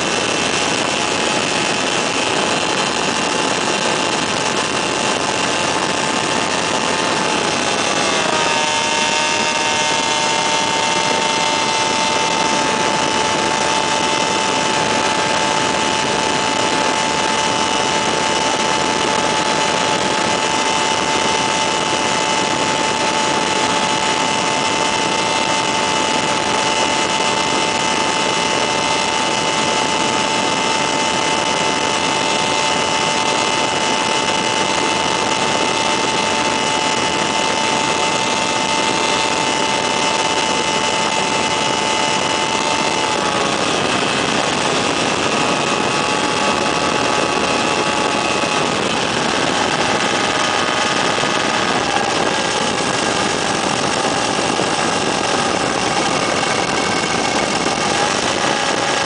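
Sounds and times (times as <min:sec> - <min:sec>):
ultralight engine and propeller drone: 0:00.0 - 0:59.0.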